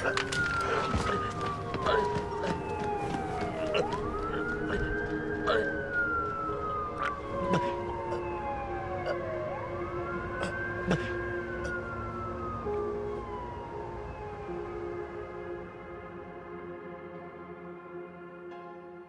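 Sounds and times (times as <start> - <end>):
emergency siren wailing: 0.0 - 18.3.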